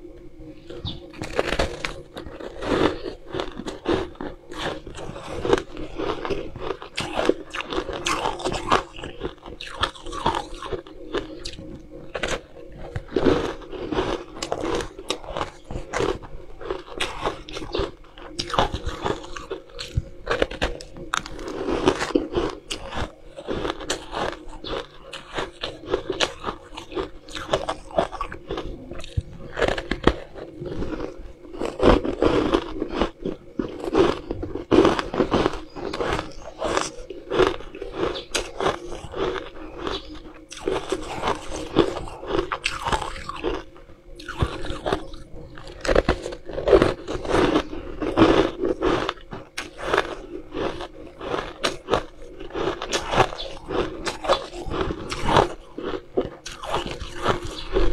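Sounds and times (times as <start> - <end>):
ice crunching between teeth: 0.4 - 57.9.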